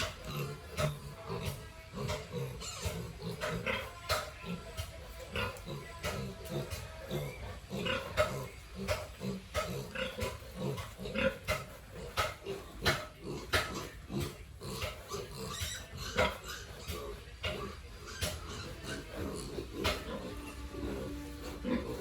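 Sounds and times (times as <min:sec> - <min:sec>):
pigs grunting: 0:00.0 - 0:22.0.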